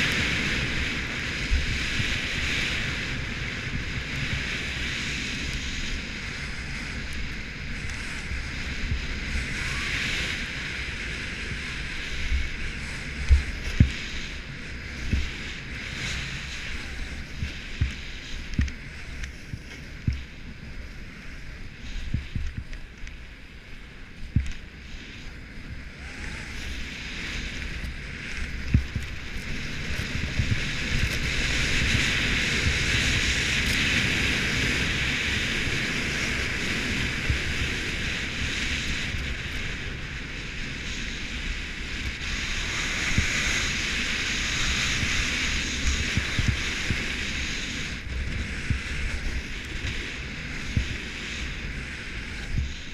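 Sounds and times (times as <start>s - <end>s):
skis hissing over snow: 0.0s - 52.9s
wind buffeting microphone: 0.0s - 52.9s.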